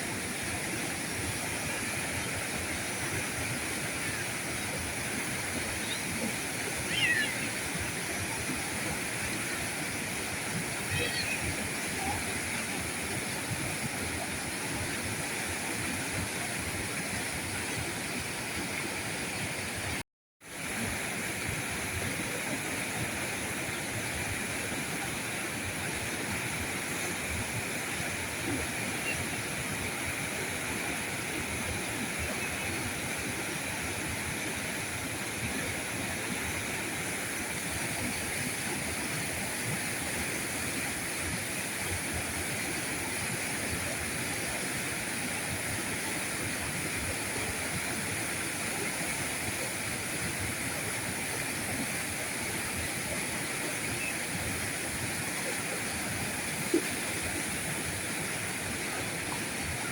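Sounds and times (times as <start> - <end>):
river current flowing: 0.0 - 59.9.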